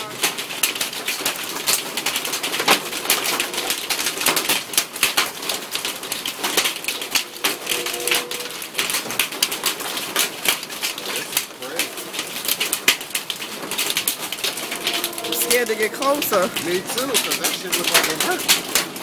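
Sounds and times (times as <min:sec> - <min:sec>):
hailstones clattering on awning: 0:00.0 - 0:07.8, 0:08.6 - 0:14.8, 0:15.6 - 0:19.0.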